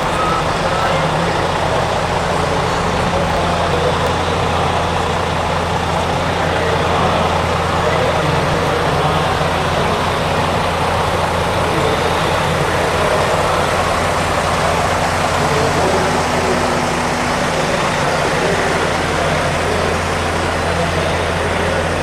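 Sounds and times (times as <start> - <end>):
truck engines idling: 0.0 - 22.0.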